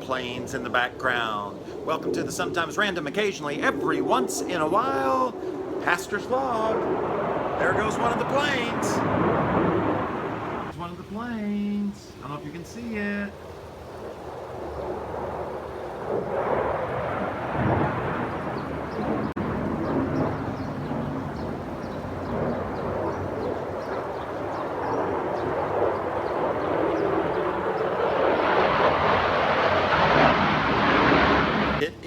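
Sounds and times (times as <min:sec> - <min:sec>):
airplanes flying overhead: 0:00.0 - 0:10.7, 0:12.0 - 0:32.0.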